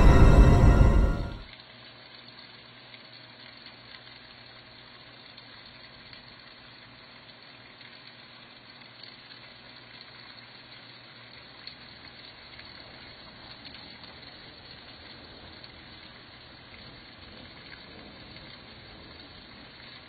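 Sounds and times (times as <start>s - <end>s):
water streaming across street: 1.5s - 20.0s.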